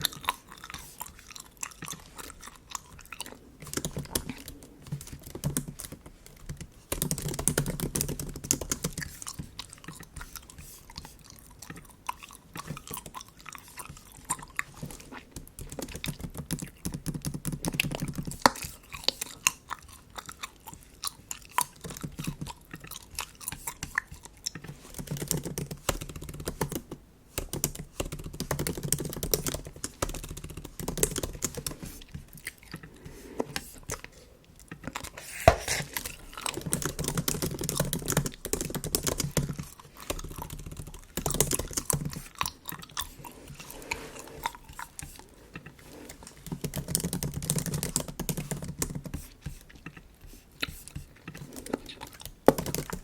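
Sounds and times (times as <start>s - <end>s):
laptop keyboard typing: 0.0s - 53.0s
wet gum chewing: 0.0s - 53.0s.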